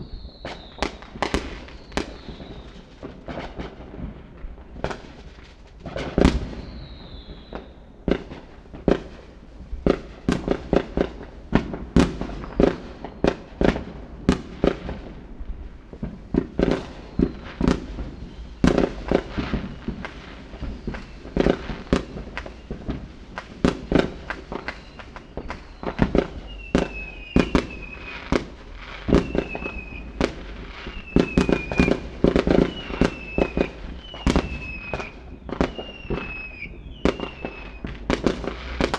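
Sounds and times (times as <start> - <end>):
falling firework whistles: 0.0 - 3.8, 4.7 - 8.2, 12.0 - 14.9, 16.4 - 38.9
fireworks bangs and pops: 0.0 - 38.9.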